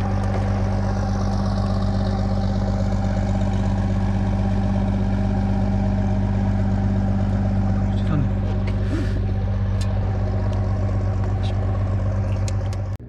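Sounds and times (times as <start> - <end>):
motor humming steadily: 0.0 - 13.0.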